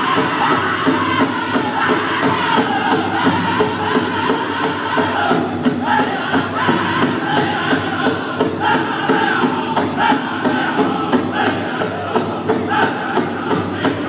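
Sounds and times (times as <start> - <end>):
big drum beat: 0.0 - 14.0
crowd noise: 0.0 - 14.0
men singing in high voices: 0.0 - 14.0.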